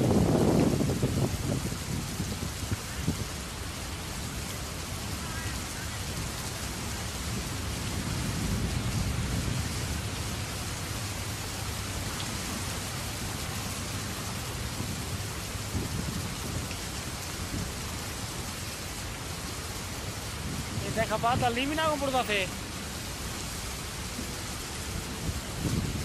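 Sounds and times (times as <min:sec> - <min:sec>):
floodwater rushing over stones: 0:00.0 - 0:26.0.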